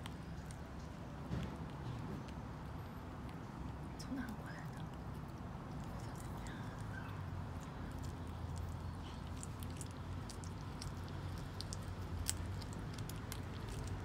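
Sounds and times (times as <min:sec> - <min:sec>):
kitten chewing meat: 0:00.0 - 0:14.0.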